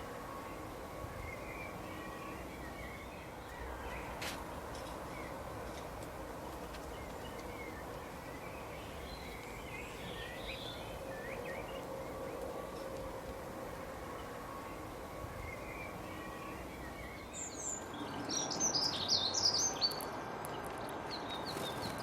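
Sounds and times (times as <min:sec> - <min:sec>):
steady outdoor background noise: 0:00.0 - 0:22.0
wild birds chirping: 0:00.0 - 0:22.0.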